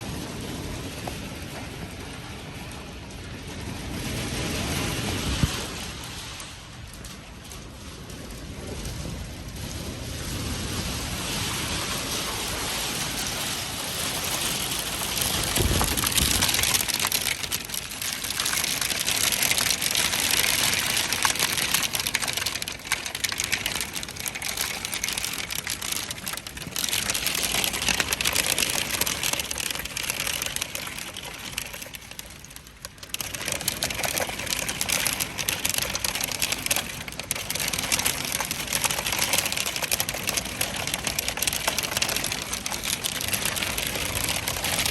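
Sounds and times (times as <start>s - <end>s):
hailstones pelting down: 0.0s - 44.9s.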